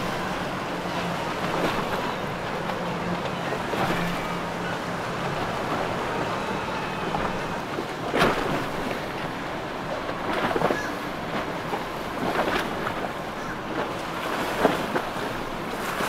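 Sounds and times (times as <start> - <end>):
boat engine humming: 0.0 - 16.0
water wash: 0.0 - 16.0.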